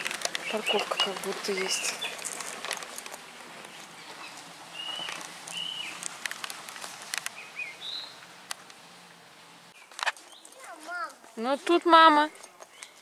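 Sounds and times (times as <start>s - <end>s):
small birds chirping: 0.0s - 6.2s, 7.2s - 8.4s, 9.7s - 13.0s.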